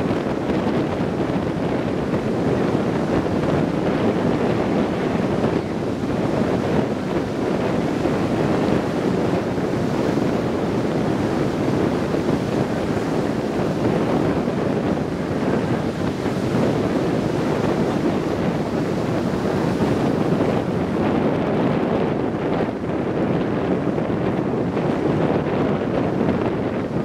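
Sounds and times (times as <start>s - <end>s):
heavy surf breaking: 0.0s - 27.0s
wind buffeting microphone: 0.0s - 27.0s.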